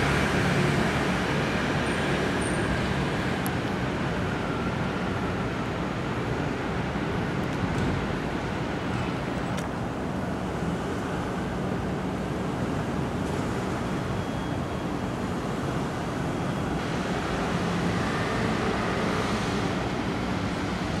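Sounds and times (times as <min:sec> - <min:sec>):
distant road traffic hum: 0:00.0 - 0:21.0.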